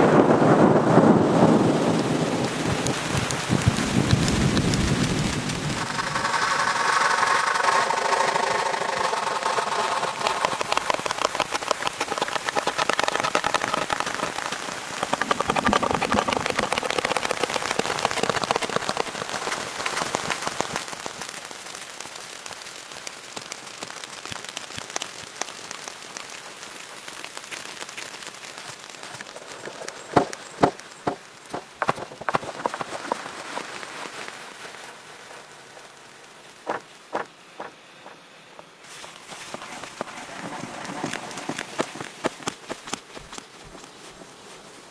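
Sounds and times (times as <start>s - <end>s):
rain pattering on foliage: 0.0s - 44.9s.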